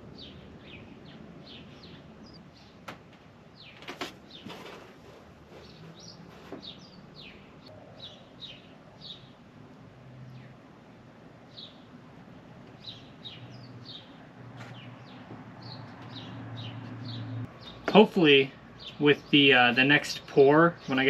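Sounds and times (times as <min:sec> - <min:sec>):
small birds chirping: 0:00.1 - 0:02.9, 0:03.5 - 0:04.9, 0:05.5 - 0:09.4, 0:11.4 - 0:21.0.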